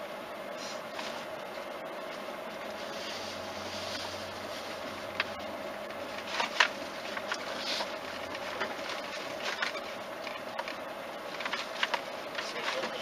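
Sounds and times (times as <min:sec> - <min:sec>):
vehicle interior hum: 0:00.0 - 0:13.0.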